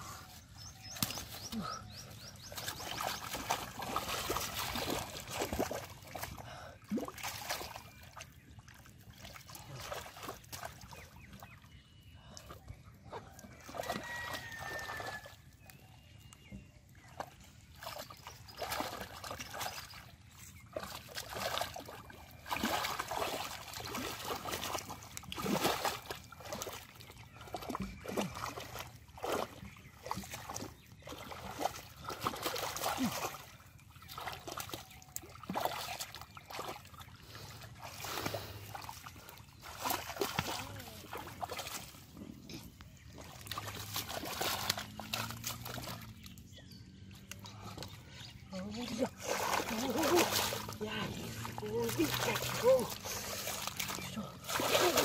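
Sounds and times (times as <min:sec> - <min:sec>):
sloshing through mud and water: 0:00.0 - 0:55.0.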